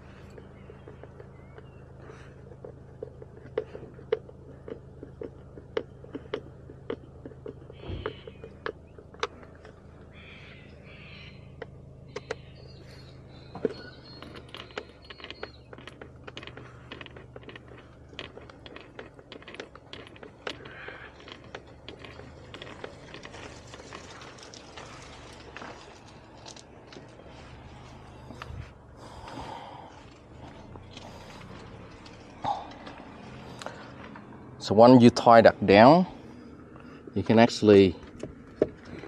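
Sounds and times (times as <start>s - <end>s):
low hum: 0.0s - 39.0s.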